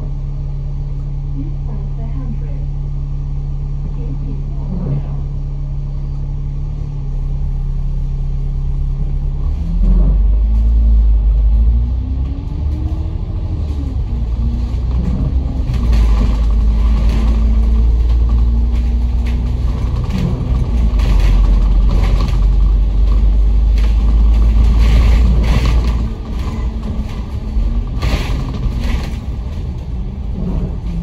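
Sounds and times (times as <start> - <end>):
bus engine rumbling: 0.0 - 31.0.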